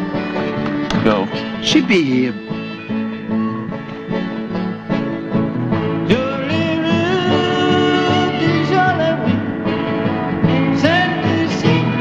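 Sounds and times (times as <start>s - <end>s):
country music with guitar and bass: 0.0s - 12.0s.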